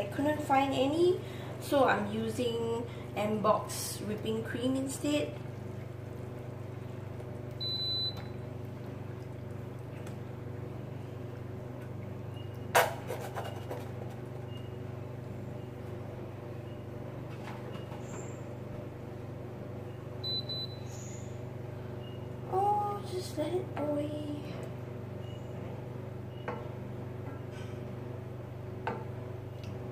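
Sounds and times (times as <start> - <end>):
induction hob humming: 0.0 - 29.9.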